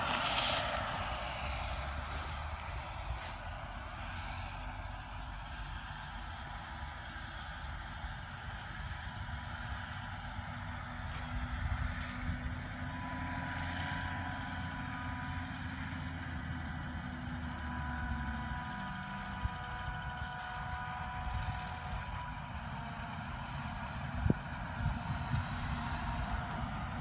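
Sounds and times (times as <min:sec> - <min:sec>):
distant harvester rumbling and whining: 0:00.0 - 0:27.0.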